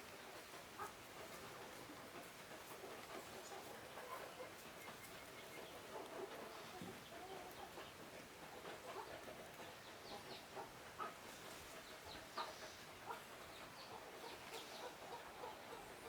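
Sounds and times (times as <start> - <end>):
chickens clucking: 0.4 - 16.0.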